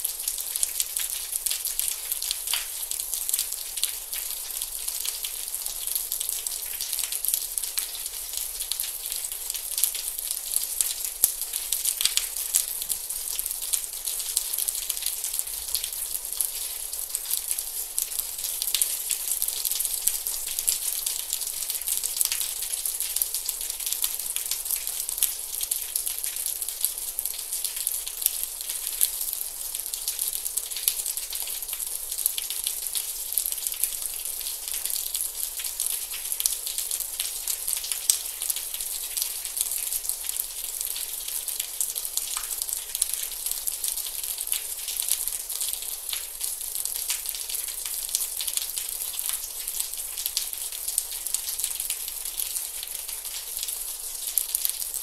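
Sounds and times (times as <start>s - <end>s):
gentle steady rain: 0.0s - 55.0s.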